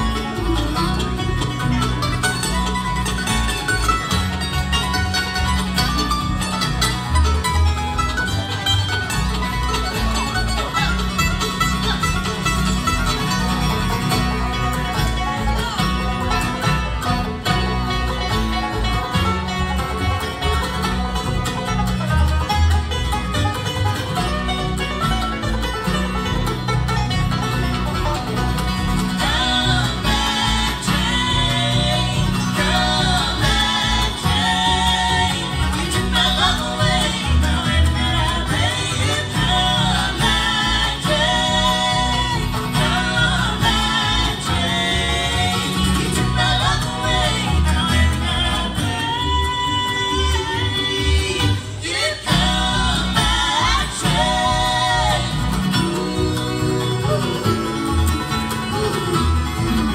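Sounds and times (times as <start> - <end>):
acoustic guitar: 0.0 - 59.9
banjo: 0.0 - 59.9
fiddle: 0.0 - 59.9
mandolin: 0.0 - 59.9
upright bass: 0.0 - 59.9.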